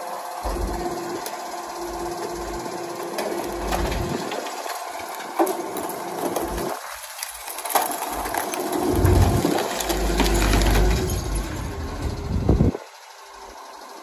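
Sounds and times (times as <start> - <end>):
garbage truck engine and compactor: 0.0 - 14.0.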